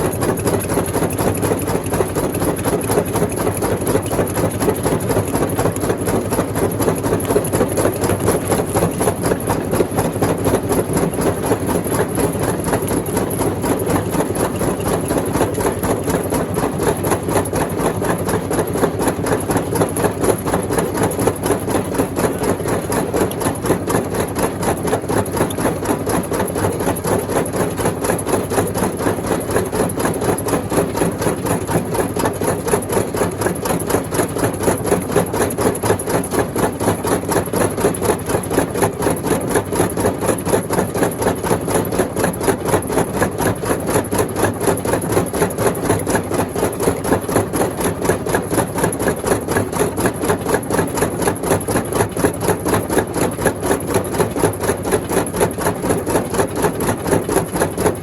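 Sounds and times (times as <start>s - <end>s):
rock crusher machine running: 0.0s - 58.0s.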